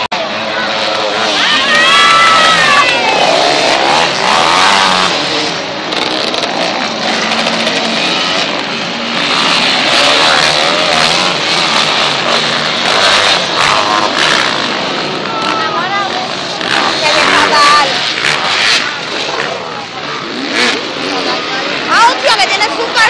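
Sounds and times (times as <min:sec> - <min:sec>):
crowd voices: 0:00.0 - 0:23.0
motorcycle engines revving: 0:00.0 - 0:23.0.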